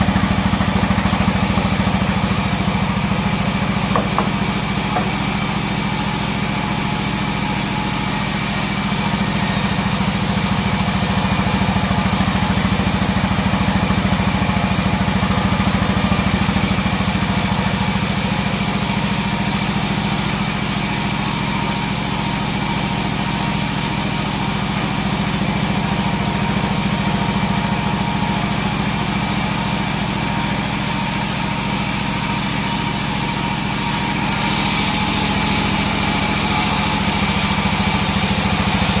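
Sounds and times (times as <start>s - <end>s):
bandsaw running: 0.0s - 39.0s.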